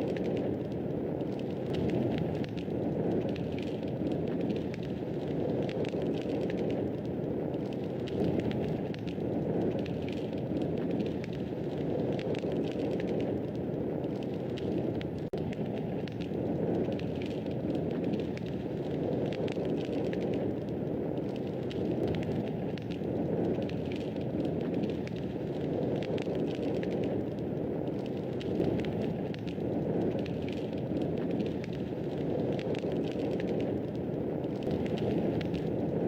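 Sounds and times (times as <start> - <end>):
fire crackling and popping: 0.0 - 36.0
fire flames rushing: 0.0 - 36.0.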